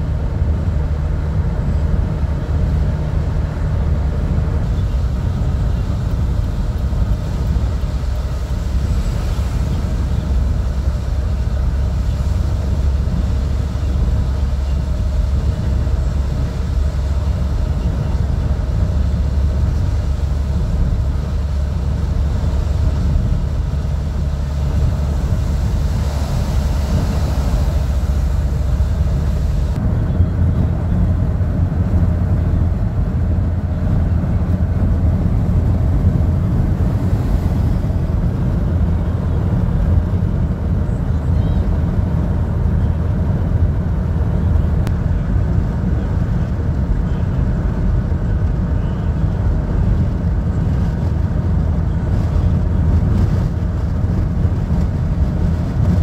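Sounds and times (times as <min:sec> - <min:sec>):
tyre and engine rumble: 0:00.0 - 0:56.0.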